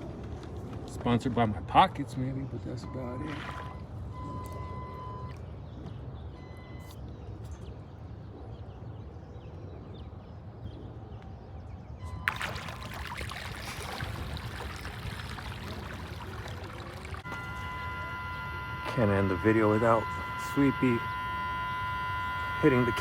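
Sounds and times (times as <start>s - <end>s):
water: 0.0s - 23.0s
wind: 0.0s - 23.0s.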